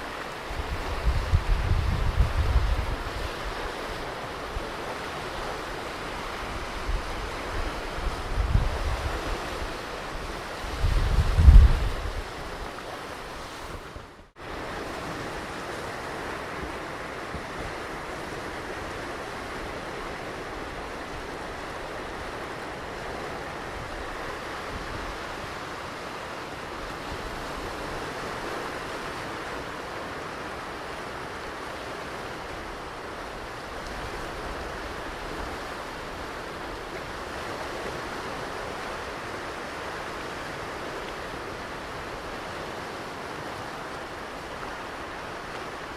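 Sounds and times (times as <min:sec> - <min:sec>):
ocean surf washing ashore: 0:00.0 - 0:45.9.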